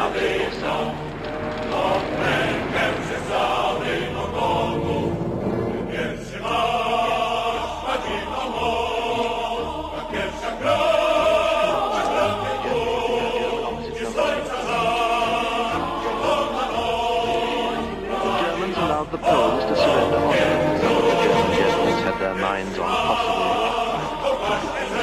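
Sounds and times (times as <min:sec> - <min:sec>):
choir singing held chords: 0:00.0 - 0:25.0.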